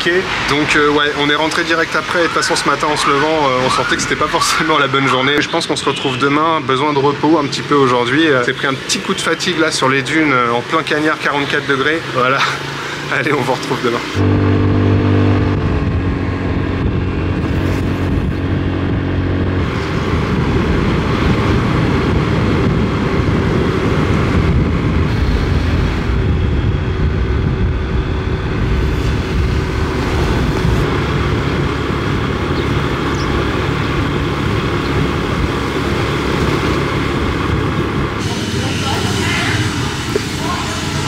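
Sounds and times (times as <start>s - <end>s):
motor vehicle noise: 0.0s - 41.0s.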